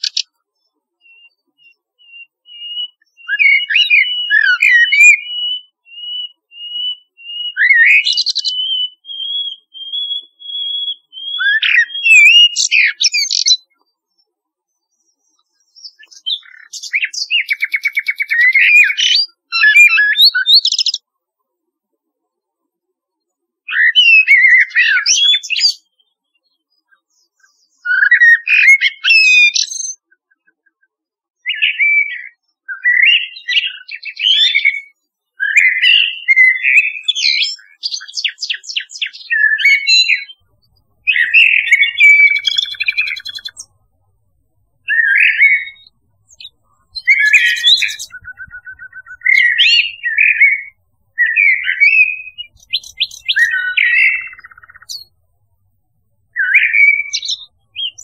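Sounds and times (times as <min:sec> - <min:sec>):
blackbird singing: 0:00.0 - 0:21.1, 0:23.7 - 0:58.0
nightingale singing: 0:00.0 - 0:21.1, 0:23.7 - 0:58.0.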